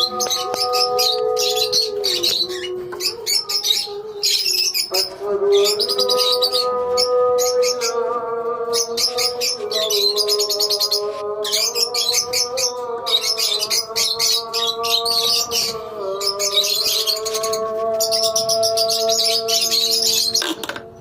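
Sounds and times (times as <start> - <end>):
call to prayer singing: 0.0 - 21.0
lovebirds chirping: 0.0 - 21.0.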